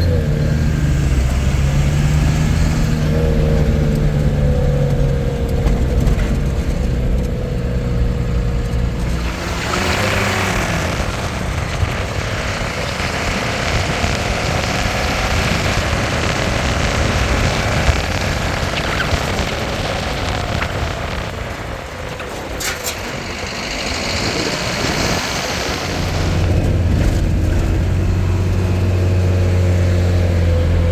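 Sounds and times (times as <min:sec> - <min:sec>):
broad rushing road noise: 0:00.0 - 0:30.9
vehicle engine low hum: 0:00.0 - 0:30.9.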